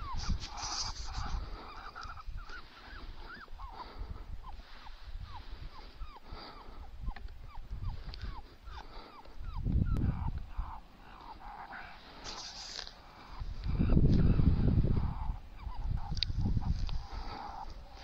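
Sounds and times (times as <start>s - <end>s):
coyote-like whimpering yips: 0.0s - 18.0s.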